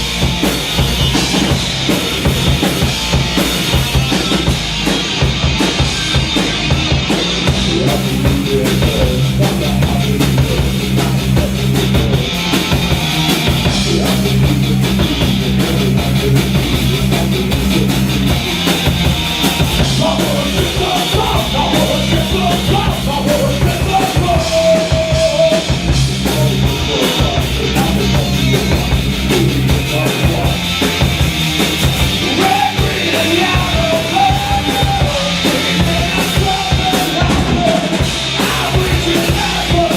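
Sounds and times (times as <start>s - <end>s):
live rock band: 0.0s - 39.9s.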